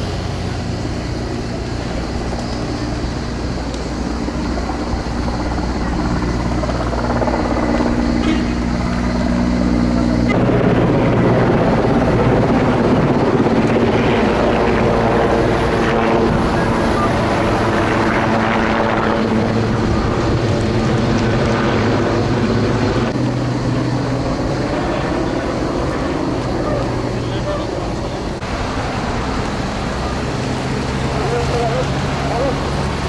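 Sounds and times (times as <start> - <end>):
aircraft engine drone overhead: 0.0 - 33.0.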